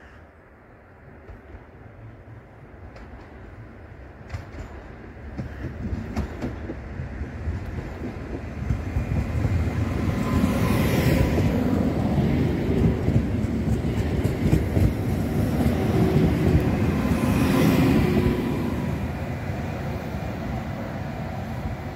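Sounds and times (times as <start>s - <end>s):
train wheels rumbling on rails: 1.0s - 21.9s.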